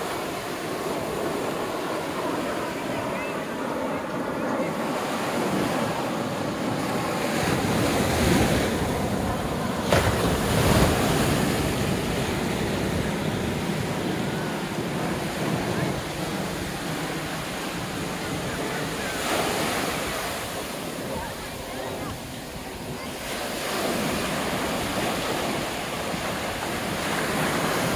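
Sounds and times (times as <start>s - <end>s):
wind buffeting microphone: 0.0s - 27.9s
surf breaking on beach: 4.4s - 27.9s.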